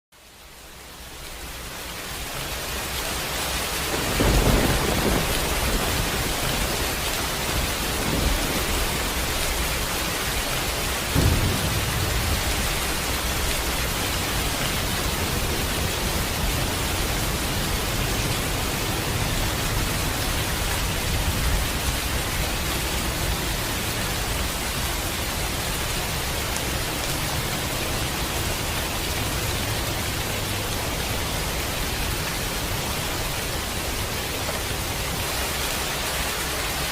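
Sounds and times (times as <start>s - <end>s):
steady rain: 0.1s - 36.9s
thunder rumbling: 3.8s - 33.8s.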